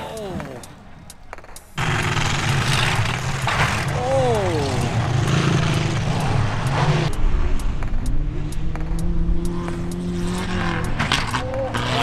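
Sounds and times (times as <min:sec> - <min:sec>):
sharp clicks: 0:00.0 - 0:04.0, 0:04.7 - 0:12.0
truck engine revving: 0:00.0 - 0:12.0.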